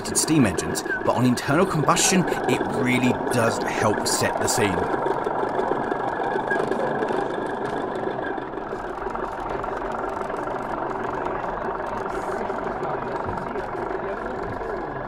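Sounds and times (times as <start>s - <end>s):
model locomotive engine sound: 0.0s - 15.0s.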